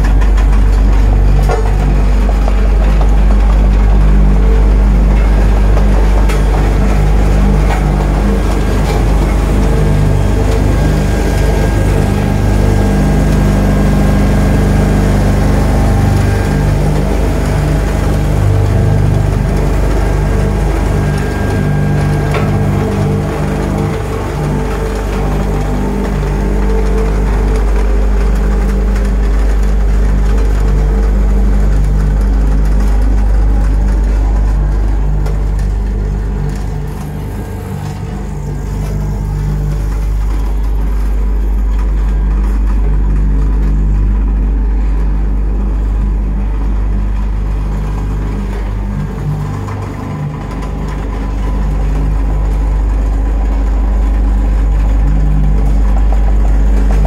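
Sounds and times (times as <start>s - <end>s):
diesel engine low drone: 0.0s - 57.0s.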